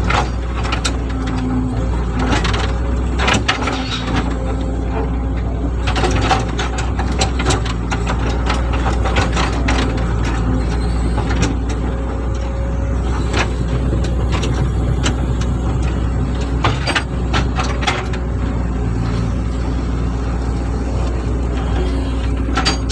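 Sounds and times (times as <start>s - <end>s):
diesel engine under load: 0.0s - 22.9s.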